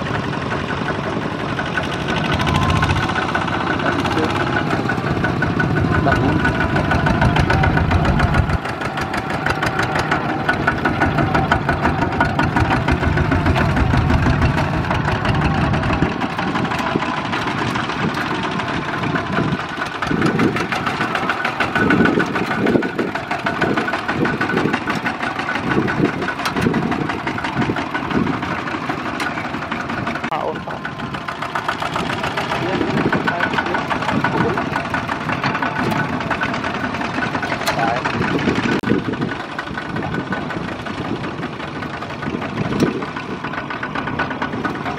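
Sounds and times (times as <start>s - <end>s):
diesel engines chugging: 0.0s - 44.9s.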